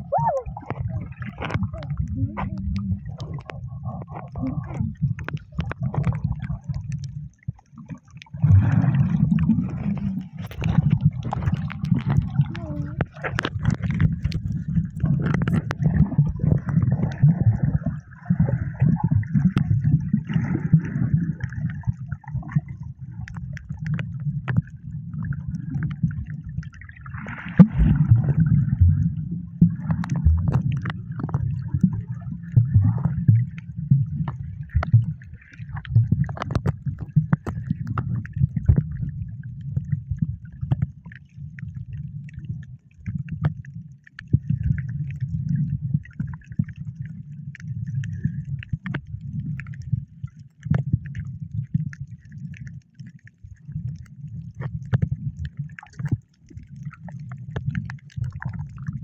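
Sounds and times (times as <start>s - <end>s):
underwater sloshing and gurgling: 0.0s - 59.0s.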